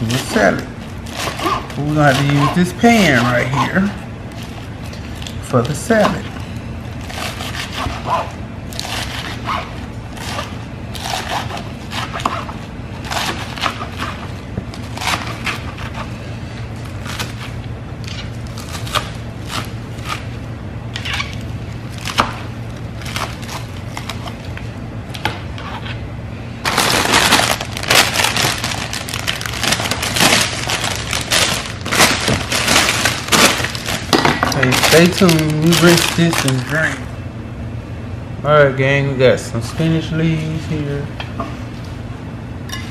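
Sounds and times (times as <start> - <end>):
loud continuous noise: 0.0 - 42.9.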